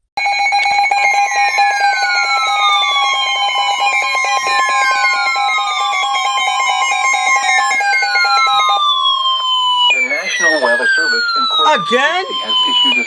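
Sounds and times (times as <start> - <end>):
two-tone alert alarm: 0.2 - 13.0
falling electronic sweeps: 1.3 - 13.0.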